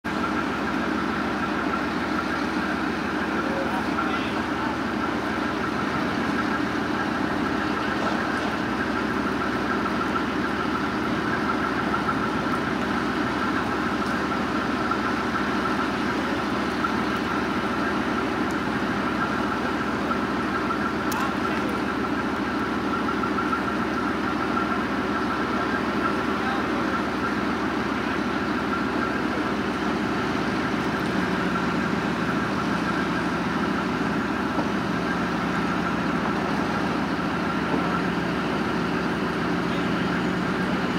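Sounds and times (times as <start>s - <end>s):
diesel engine idling: 0.0s - 40.9s
hydraulic crane whine: 0.1s - 40.9s.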